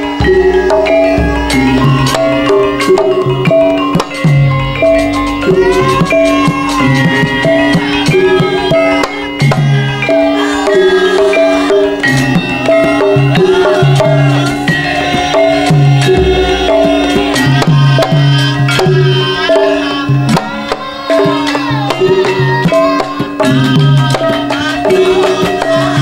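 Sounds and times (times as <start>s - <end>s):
hand drums beating: 0.0s - 26.0s
struck ringing melody notes: 0.0s - 26.0s.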